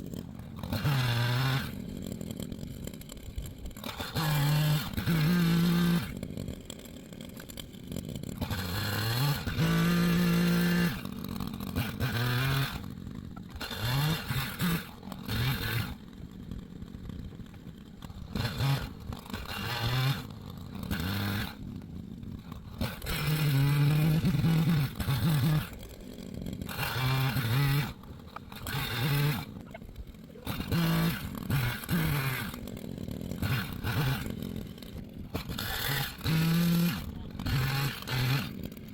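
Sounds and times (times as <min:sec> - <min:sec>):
chainsaw revving cutting wood: 0:00.0 - 0:38.9.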